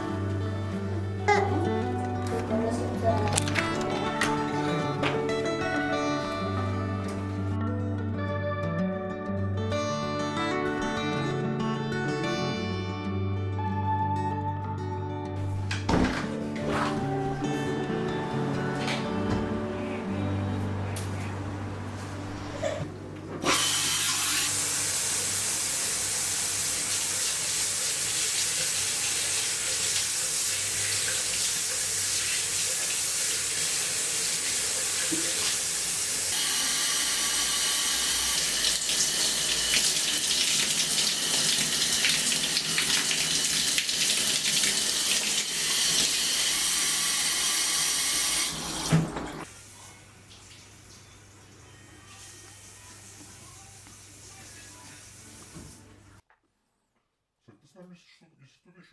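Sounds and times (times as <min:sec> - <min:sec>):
water running: 0:00.0 - 0:07.5, 0:15.4 - 0:56.2.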